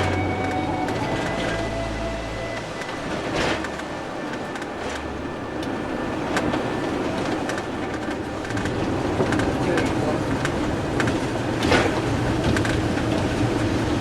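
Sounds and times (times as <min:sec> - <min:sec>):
tyre and engine rumble: 0:00.0 - 0:14.0.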